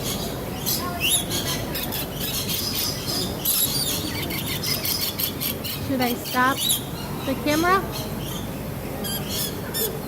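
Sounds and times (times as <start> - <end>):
lorikeets chattering: 0.0 - 10.0.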